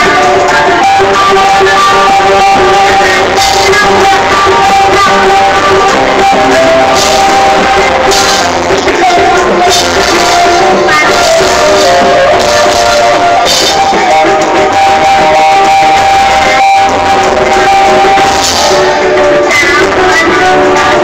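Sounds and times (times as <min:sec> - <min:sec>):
guitar accompaniment: 0:00.0 - 0:21.0
person singing: 0:00.0 - 0:21.0.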